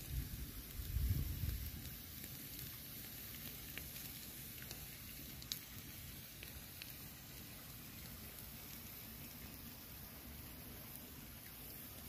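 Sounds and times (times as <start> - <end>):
embers crackling: 0.0 - 11.5
fish sizzling over embers: 0.0 - 12.0.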